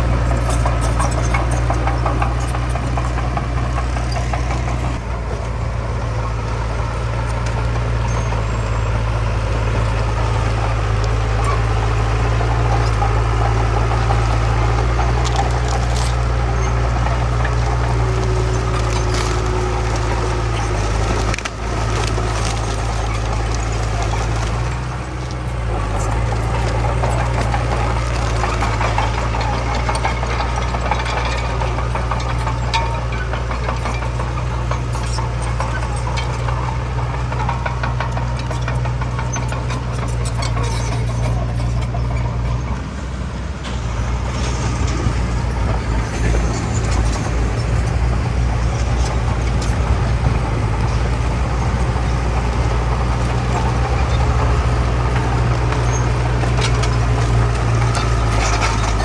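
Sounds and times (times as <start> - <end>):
crackling and rattling: 0.0 - 42.9, 43.6 - 59.0
bulldozer engine drone: 0.0 - 59.0.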